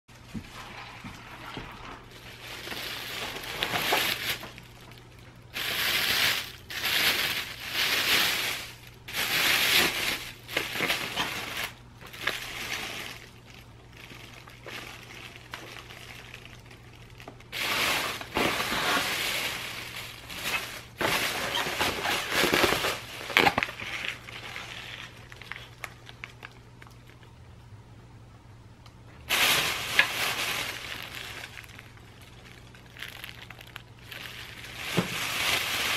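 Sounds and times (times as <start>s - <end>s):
plastic bag rustling: 0.1s - 27.2s, 29.2s - 35.9s.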